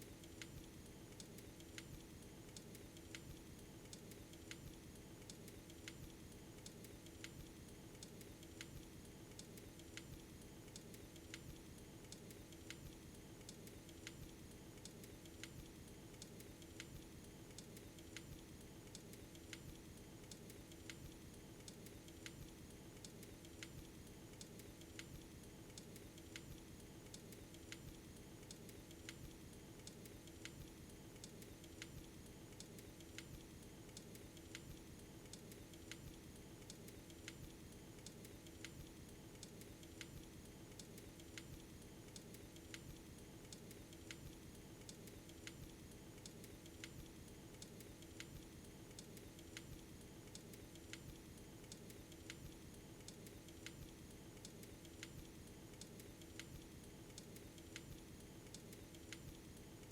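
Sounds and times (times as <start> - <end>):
faint sharp clicks: 0.1 - 59.9.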